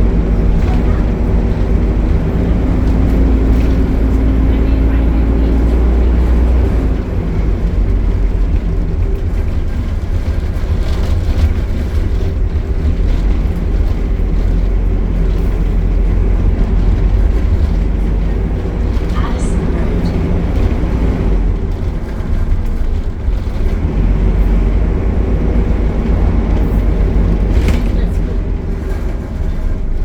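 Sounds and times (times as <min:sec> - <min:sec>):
bus engine drone: 0:00.0 - 0:30.0.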